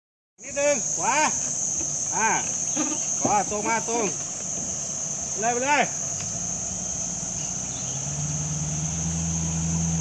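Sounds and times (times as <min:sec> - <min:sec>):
high insect drone: 0:00.4 - 0:10.0
car engine at low revs: 0:01.4 - 0:10.0.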